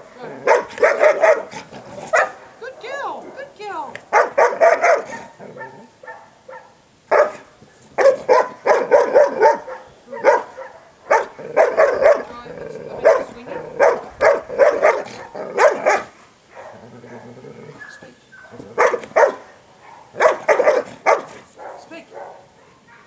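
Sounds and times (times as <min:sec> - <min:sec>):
dog barking loudly: 0:00.4 - 0:03.4, 0:04.0 - 0:16.8, 0:17.8 - 0:23.0.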